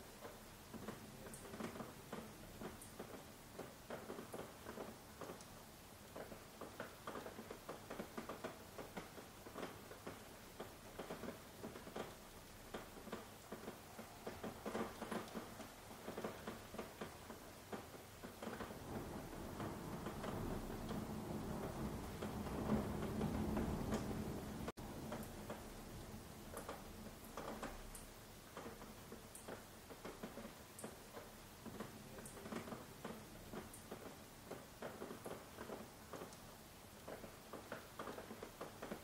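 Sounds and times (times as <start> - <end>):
faint steady hiss: 0.0 - 39.0
rain drops pattering: 0.0 - 39.0.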